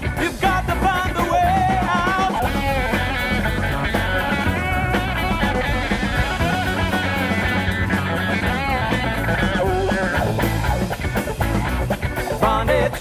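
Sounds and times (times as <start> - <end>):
bass guitar: 0.0 - 13.0
drum kit: 0.0 - 13.0
rock guitar: 0.0 - 13.0.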